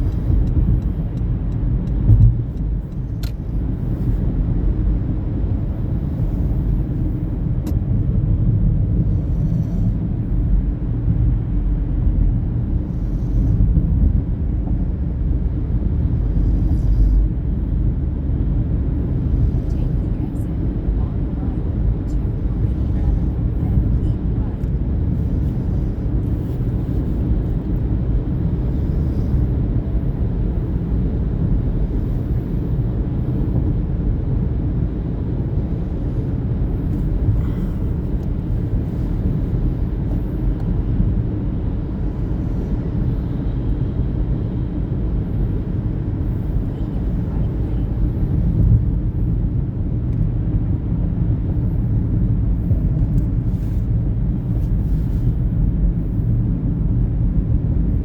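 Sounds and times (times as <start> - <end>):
moving vehicle rumble: 0.0 - 58.0.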